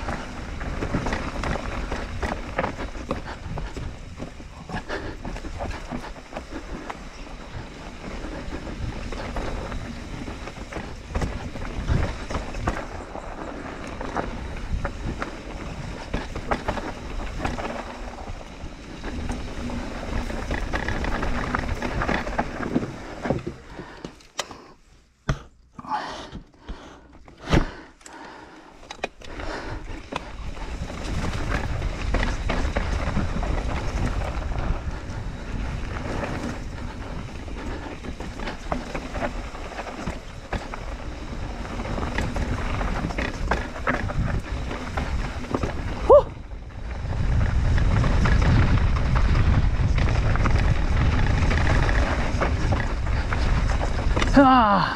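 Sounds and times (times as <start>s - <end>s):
bike frame and chain rattling: 0.0s - 24.4s, 28.8s - 54.9s
bike tyres rolling on rough trail: 0.0s - 54.9s.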